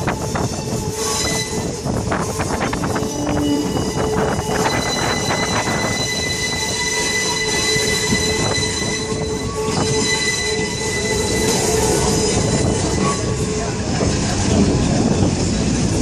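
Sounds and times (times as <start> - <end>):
train running rumble: 0.0 - 16.0
train wheels squealing on rails: 0.0 - 16.0.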